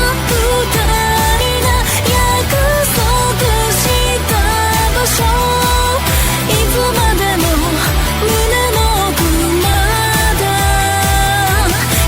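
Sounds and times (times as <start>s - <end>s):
upbeat pop music: 0.0s - 12.0s.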